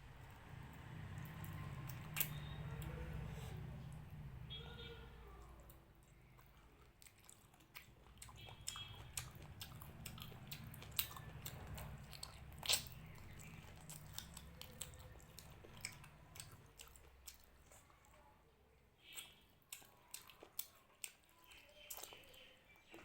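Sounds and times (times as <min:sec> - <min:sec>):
chewing with wet mouth clicks: 0:00.2 - 0:04.1, 0:05.4 - 0:18.3, 0:19.0 - 0:23.0.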